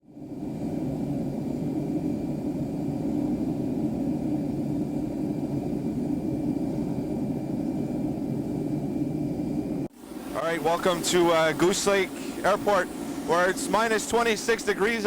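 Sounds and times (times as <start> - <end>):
jet aircraft rumble and whine: 0.0 - 15.0.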